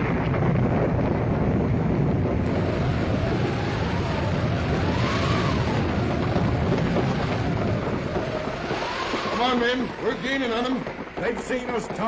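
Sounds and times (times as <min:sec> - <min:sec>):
horses galloping: 0:00.0 - 0:12.0
howling storm wind: 0:00.0 - 0:12.0.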